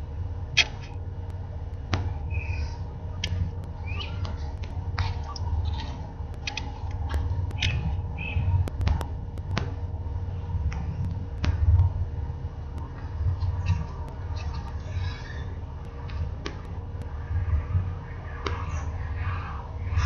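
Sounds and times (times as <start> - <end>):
motor hum: 0.0 - 20.0
wind rumble on microphone: 0.0 - 20.0.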